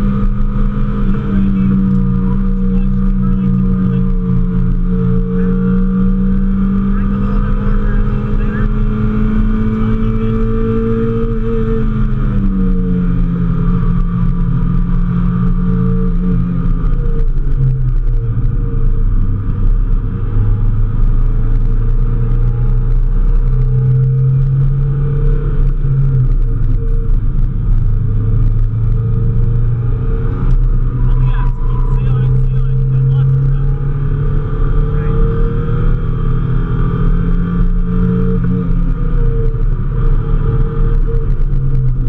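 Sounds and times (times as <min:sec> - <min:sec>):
car engine drone from inside cabin: 0:00.0 - 0:42.0
road and wind rumble: 0:00.0 - 0:42.0.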